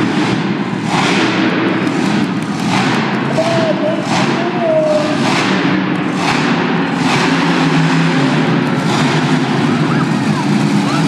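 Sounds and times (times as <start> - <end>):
monster truck engine running: 0.0 - 11.0.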